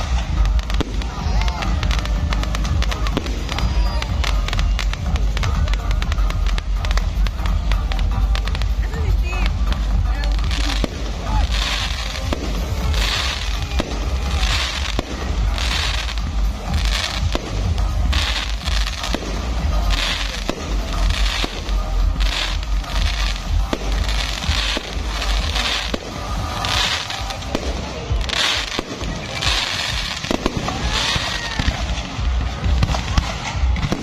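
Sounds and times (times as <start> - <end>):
continuous low rumble: 0.0 - 34.0
crackling sparkle showers: 0.0 - 34.0.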